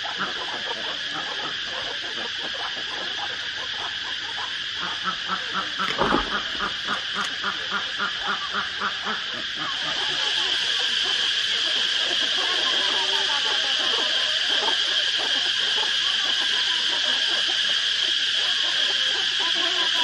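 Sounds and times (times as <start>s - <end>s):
chickens chirping: 0.0s - 20.0s
ducks quacking: 0.0s - 20.0s.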